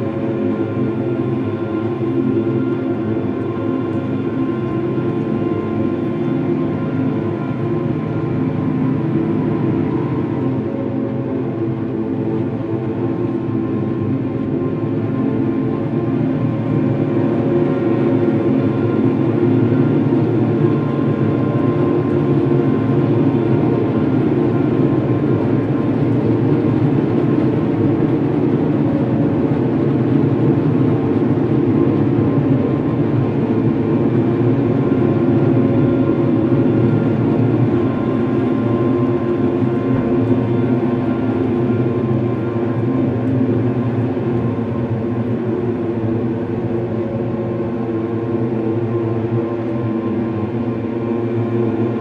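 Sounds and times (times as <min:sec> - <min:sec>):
dark ambient drone music: 0:00.0 - 0:52.0.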